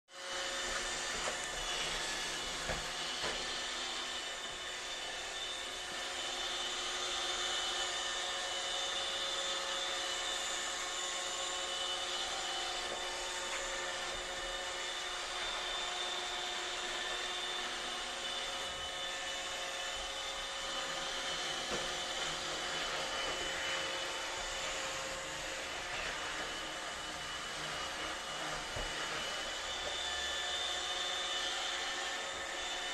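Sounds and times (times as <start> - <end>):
robot vacuum motor whirring: 0.2 - 32.9.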